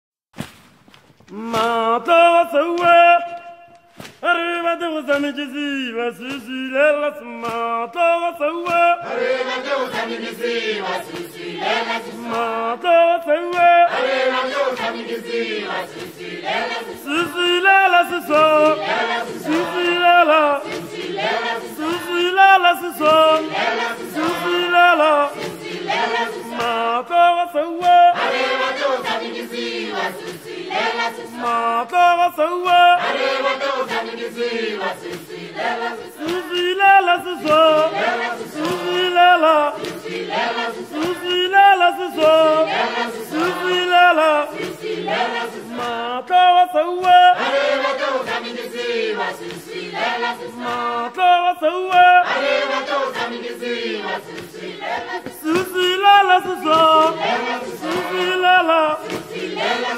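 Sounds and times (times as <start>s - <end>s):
choir singing in harmony: 4.6s - 59.9s.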